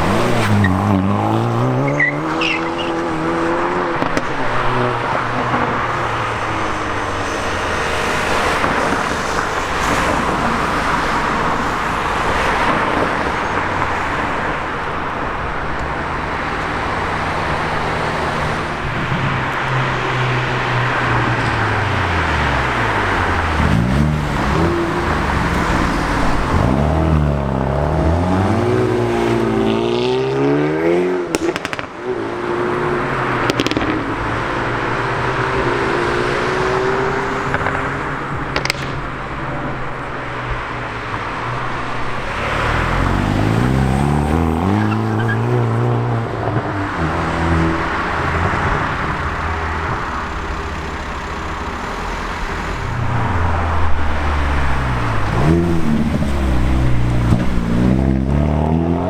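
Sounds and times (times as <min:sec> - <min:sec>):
car engines accelerating hard: 0:00.0 - 0:59.0
road noise: 0:00.0 - 0:59.0
loud exhaust: 0:03.0 - 0:32.2, 0:33.0 - 0:59.0.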